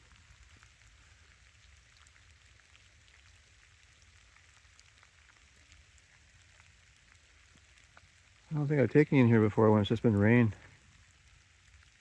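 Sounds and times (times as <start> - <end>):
faint rain in forest: 0.0 - 12.0.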